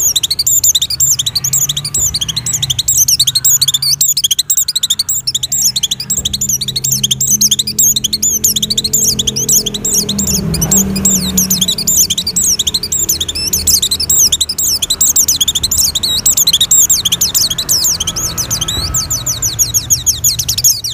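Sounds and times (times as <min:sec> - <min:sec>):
bird twittering song: 0:00.0 - 0:20.9.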